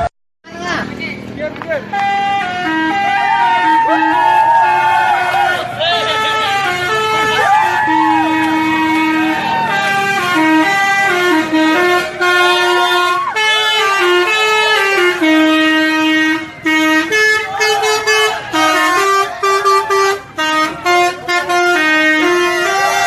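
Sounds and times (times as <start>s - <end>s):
bus musical horn playing a tune: 1.8s - 23.0s.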